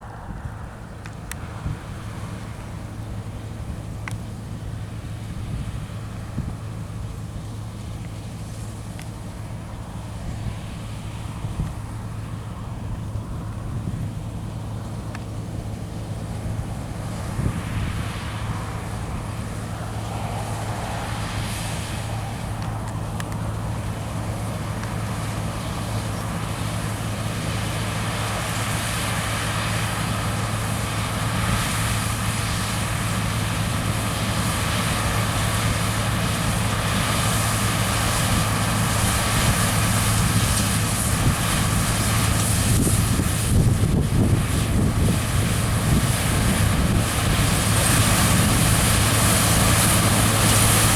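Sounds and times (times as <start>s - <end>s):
combine harvester engine hum: 0.0s - 50.9s.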